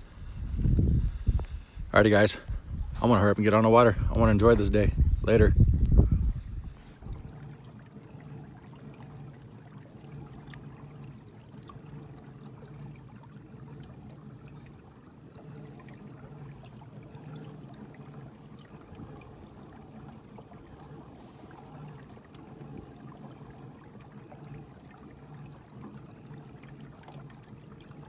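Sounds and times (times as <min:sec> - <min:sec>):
water trickling and splashing: 0:02.1 - 0:28.0.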